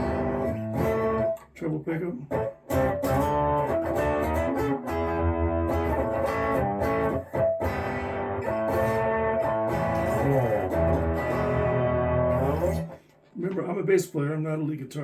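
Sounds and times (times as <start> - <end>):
electric guitar strummed chords: 0.0 - 1.6, 2.2 - 13.0.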